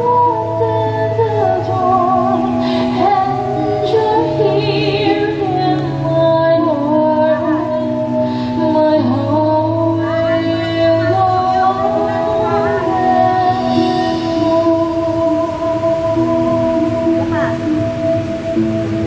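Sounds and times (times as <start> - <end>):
woman singing over held chords: 0.0 - 19.0.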